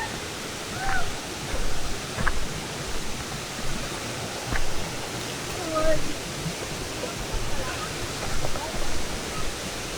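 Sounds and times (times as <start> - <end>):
rushing flowing water: 0.0 - 9.9.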